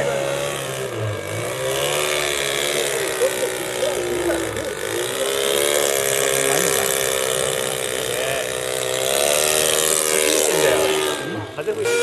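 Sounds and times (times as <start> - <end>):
model airplane propeller drone: 0.0 - 12.0.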